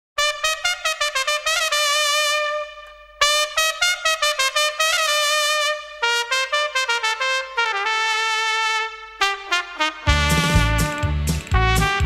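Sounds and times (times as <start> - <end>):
solo trumpet fanfare: 0.2 - 12.0.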